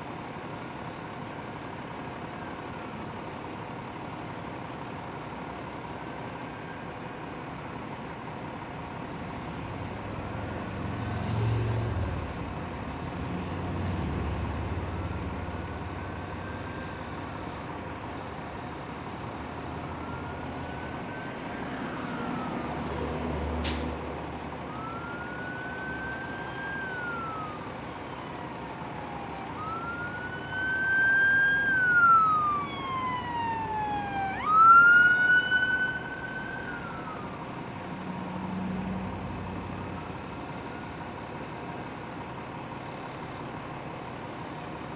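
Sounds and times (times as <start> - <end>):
emergency vehicle siren wailing: 0.6 - 42.0
cars and trucks passing: 7.2 - 44.9.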